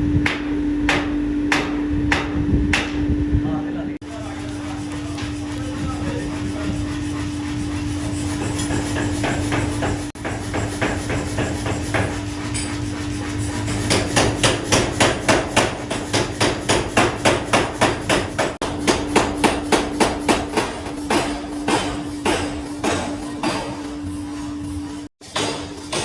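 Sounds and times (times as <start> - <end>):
steady machine hum: 0.0 - 25.1.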